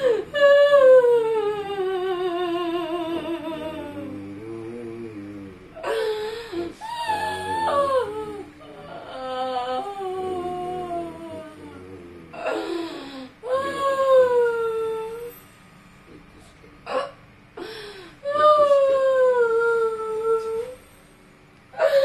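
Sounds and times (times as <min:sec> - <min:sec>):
woman wailing and moaning: 0:00.0 - 0:15.4, 0:16.9 - 0:20.8, 0:21.8 - 0:22.0.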